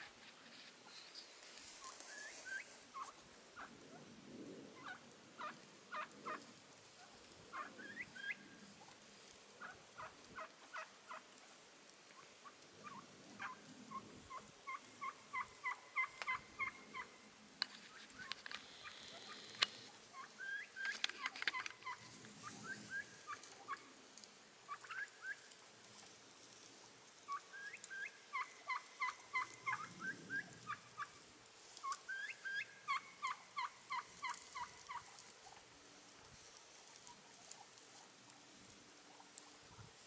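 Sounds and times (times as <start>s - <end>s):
wild turkeys calling: 0.9s - 4.1s, 4.8s - 26.0s, 26.6s - 40.0s.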